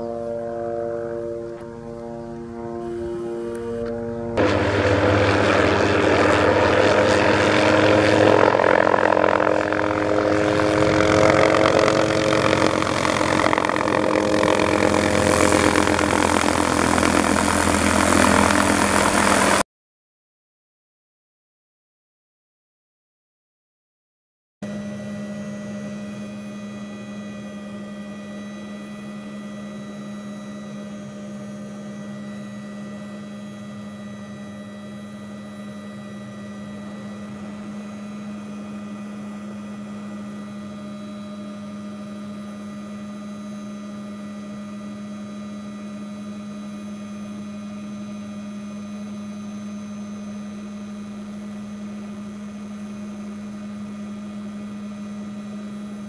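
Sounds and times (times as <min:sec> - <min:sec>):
helicopter engine and rotor drone: 0:00.0 - 0:19.6, 0:24.6 - 0:56.0.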